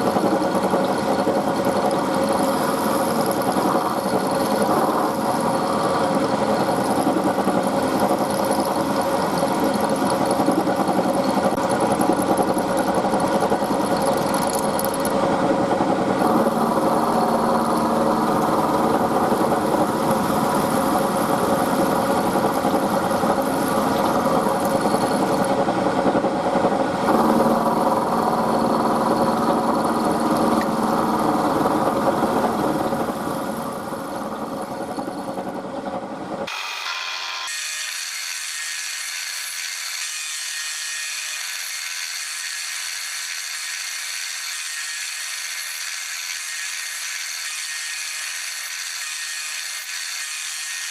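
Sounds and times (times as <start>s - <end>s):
milling machine cutting steel: 0.0s - 50.9s.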